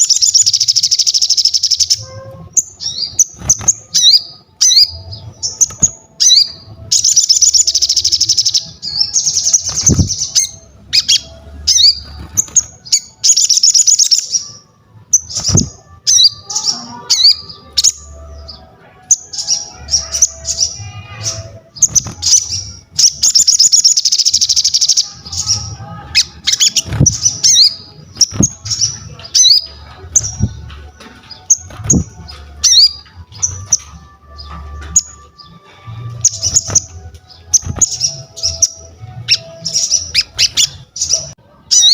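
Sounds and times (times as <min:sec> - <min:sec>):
songbird singing trills: 0:00.0 - 0:41.9.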